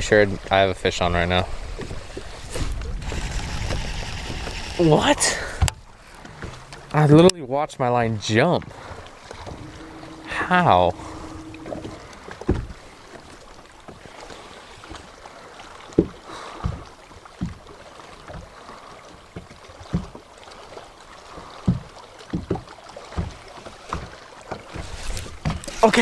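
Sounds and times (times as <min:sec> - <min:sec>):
wind and water wash: 0:00.0 - 0:26.0.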